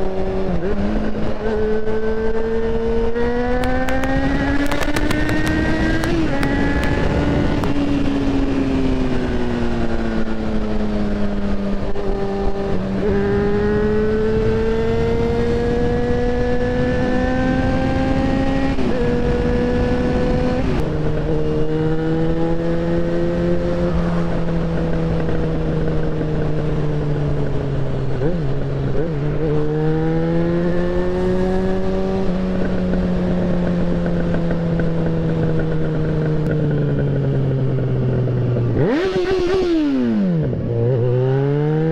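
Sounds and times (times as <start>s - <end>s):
motorcycle engine running under load: 0.0s - 41.2s.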